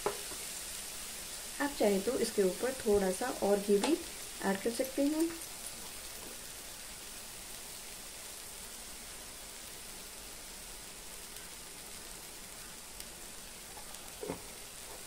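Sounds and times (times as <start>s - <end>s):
bread sizzling in a pan: 0.0s - 15.0s.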